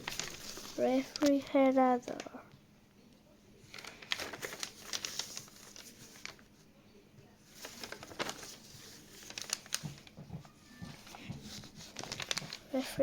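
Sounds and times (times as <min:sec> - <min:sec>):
soft crinkles: 0:00.0 - 0:02.6, 0:03.5 - 0:13.0.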